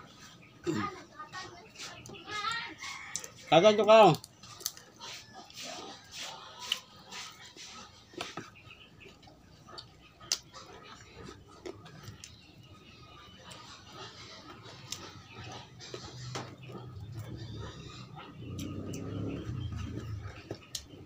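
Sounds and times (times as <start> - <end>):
quiet chewing and mouth sounds: 0.0 - 21.0.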